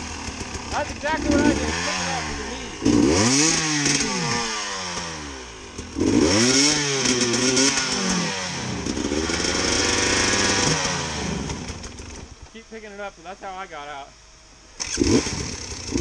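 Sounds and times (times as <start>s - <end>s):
dirt bike engine revving: 0.0s - 12.3s, 14.8s - 16.0s.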